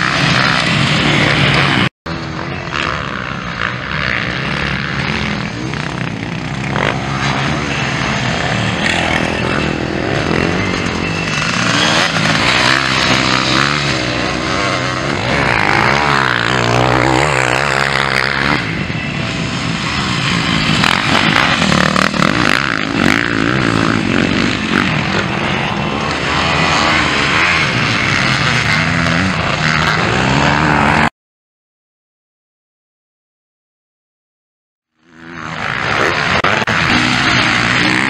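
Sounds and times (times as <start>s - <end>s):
motocross bike engines revving: 0.0s - 31.1s, 35.0s - 38.0s.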